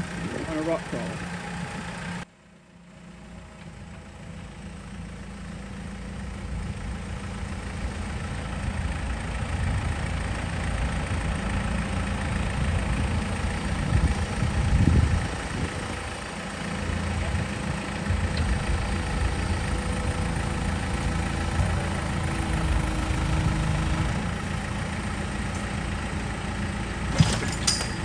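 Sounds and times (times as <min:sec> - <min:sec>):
engine running at low revs: 0:00.0 - 0:28.0.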